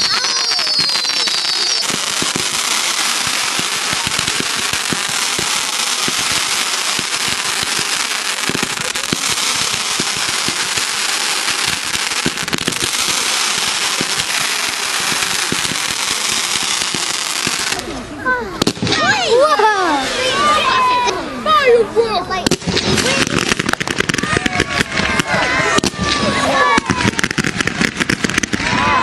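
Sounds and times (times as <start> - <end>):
fireworks bangs: 0.0 - 20.6, 22.4 - 29.0
fireworks crackling and popping: 0.0 - 20.6, 22.4 - 29.0.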